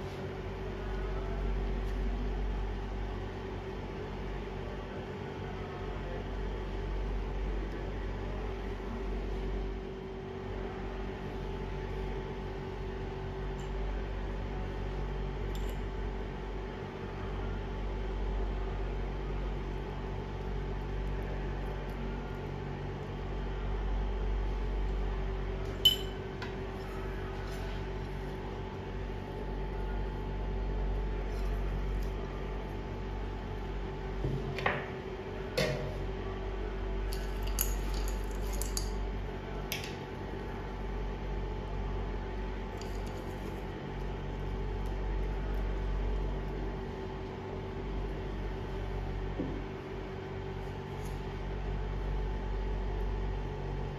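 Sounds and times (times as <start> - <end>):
cooling fan whirring: 0.0 - 53.9
induction cooktop humming: 0.0 - 53.9.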